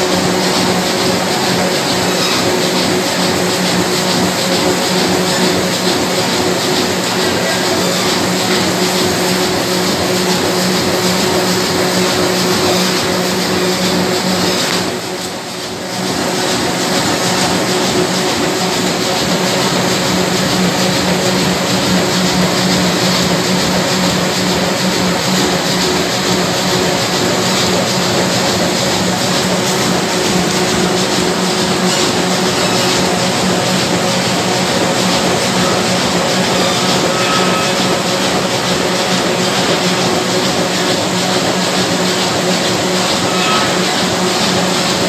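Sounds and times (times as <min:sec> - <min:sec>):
loud machine drone: 0:00.0 - 0:45.0.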